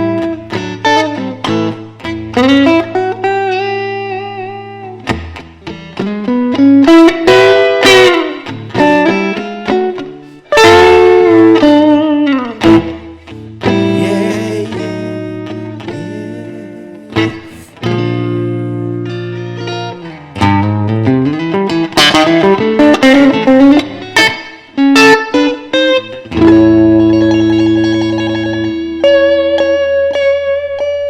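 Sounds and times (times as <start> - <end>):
blues electric guitar: 0.0 - 31.0.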